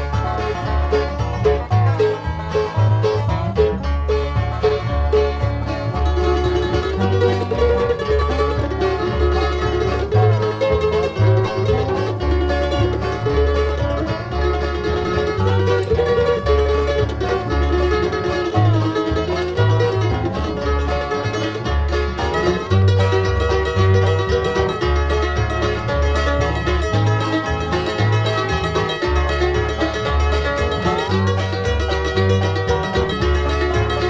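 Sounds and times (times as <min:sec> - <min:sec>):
bluegrass band playing: 0:00.0 - 0:34.0
walking bass: 0:00.0 - 0:34.0.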